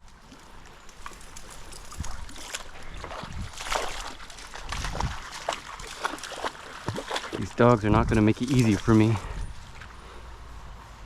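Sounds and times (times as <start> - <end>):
creek water splashing: 0.0 - 11.0.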